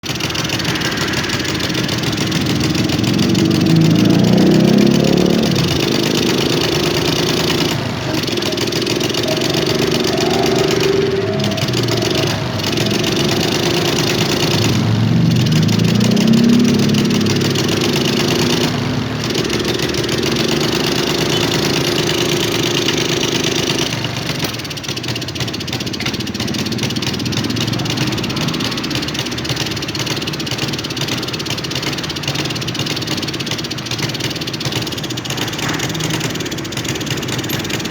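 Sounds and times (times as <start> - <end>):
motorcycle engine revving and sputtering: 0.0 - 37.9.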